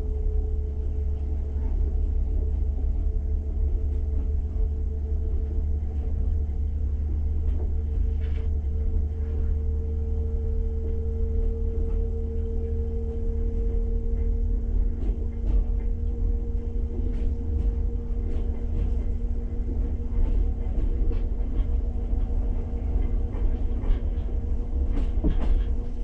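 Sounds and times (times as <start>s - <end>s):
train rumbling inside coach: 0.0s - 26.0s.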